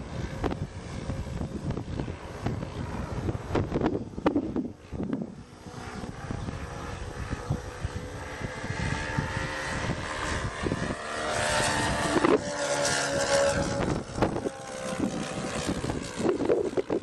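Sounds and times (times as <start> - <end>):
model aeroplane propeller drone: 0.0 - 17.0.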